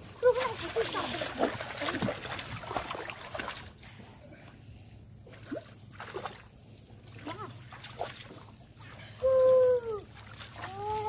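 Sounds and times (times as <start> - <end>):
splashing in muddy water: 0.0 - 4.1, 5.2 - 11.0.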